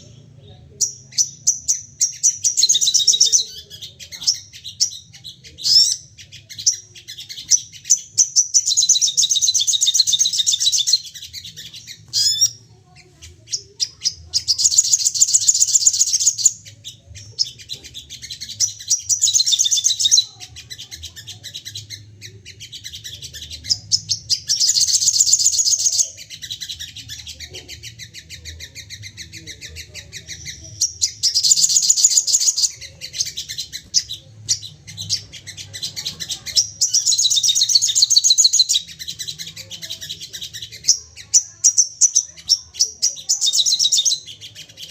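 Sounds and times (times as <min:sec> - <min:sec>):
birds rattling high calls: 0:00.0 - 0:44.9
soft bird chattering: 0:00.0 - 0:44.9.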